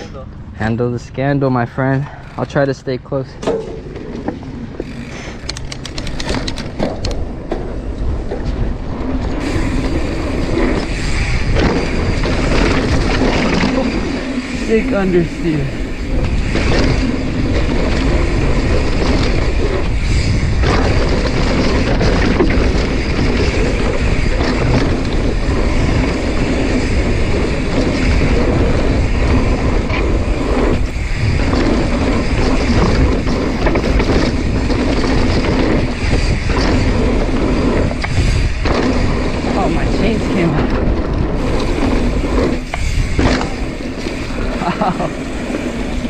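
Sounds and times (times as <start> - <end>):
bike rattling: 0.0 - 46.0
bike tyres rolling over dirt: 1.6 - 46.0
wind buffeting microphone: 3.5 - 46.0.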